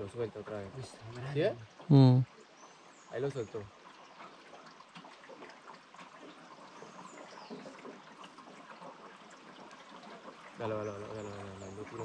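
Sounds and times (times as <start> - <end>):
water trickling and lapping: 0.0 - 12.0.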